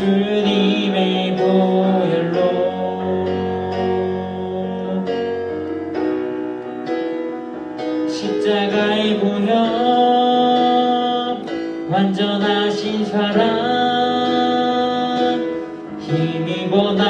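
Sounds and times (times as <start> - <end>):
voices singing worship song: 0.0 - 5.4, 7.9 - 17.0
instrumental accompaniment: 0.0 - 17.0.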